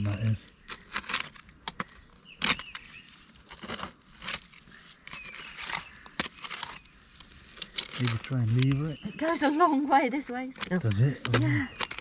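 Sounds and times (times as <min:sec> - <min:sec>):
digging fork scraping stony earth: 0:00.0 - 0:09.7, 0:10.6 - 0:12.0.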